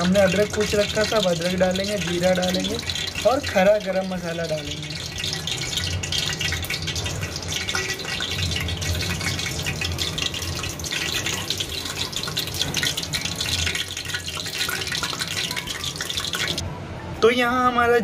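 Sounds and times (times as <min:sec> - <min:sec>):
seeds sizzling in hot oil: 0:00.0 - 0:16.6.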